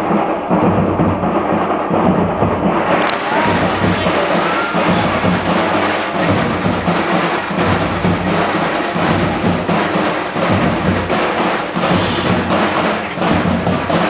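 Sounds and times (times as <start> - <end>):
procession band drums beating: 0.0 - 14.0.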